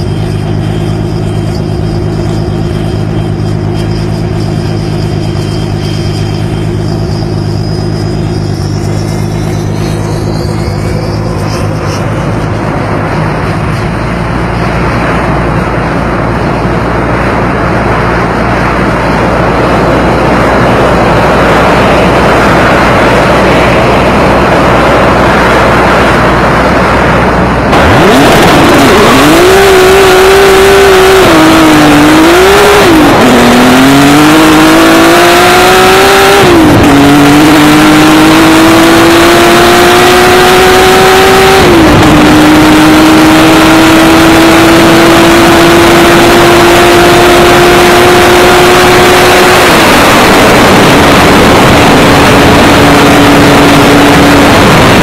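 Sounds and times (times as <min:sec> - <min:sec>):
engine shifting through gears: 0:00.0 - 0:55.0
loud rushing noise: 0:00.0 - 0:55.0.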